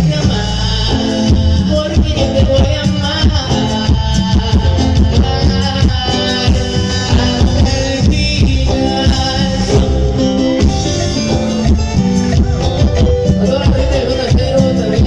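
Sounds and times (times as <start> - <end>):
loud latin dance music: 0.0 - 15.0.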